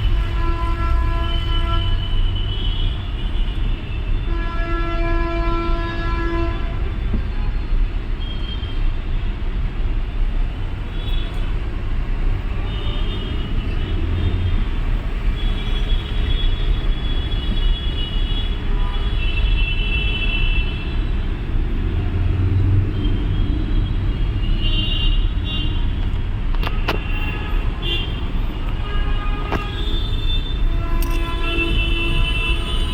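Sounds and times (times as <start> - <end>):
engine and road rumble: 0.0 - 32.9.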